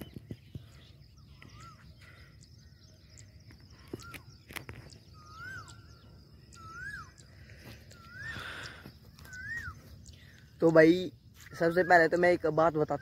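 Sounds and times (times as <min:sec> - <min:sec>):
bird whistling: 0:01.1 - 0:02.3, 0:03.2 - 0:12.4.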